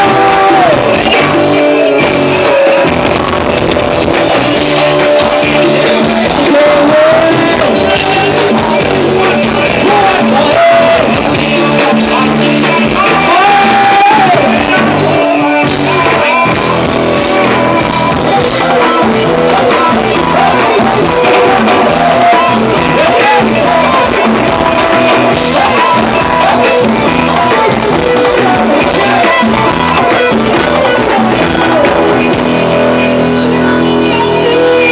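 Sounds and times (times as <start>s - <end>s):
live band playing dance music: 0.0s - 34.9s.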